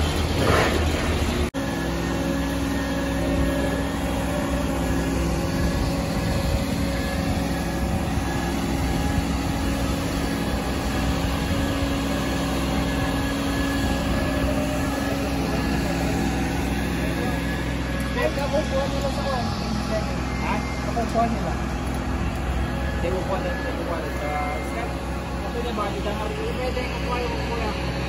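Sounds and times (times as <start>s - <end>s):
heavy crane engine droning: 0.0s - 28.0s.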